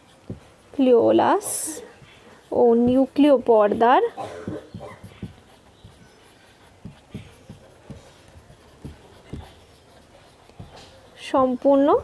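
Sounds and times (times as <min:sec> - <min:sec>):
marker writing on whiteboard: 0:00.0 - 0:12.0
pen tapping whiteboard: 0:00.1 - 0:00.6, 0:01.3 - 0:12.0.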